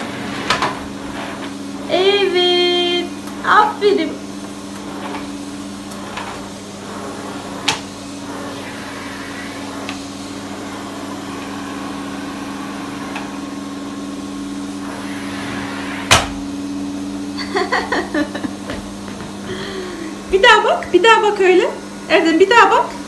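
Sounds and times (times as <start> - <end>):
vacuum cleaner humming: 0.0 - 23.0.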